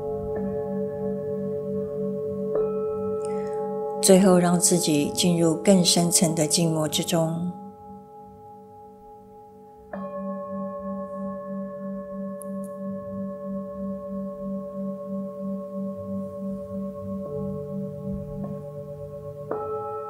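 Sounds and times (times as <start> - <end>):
singing bowls ringing: 0.4 - 20.0.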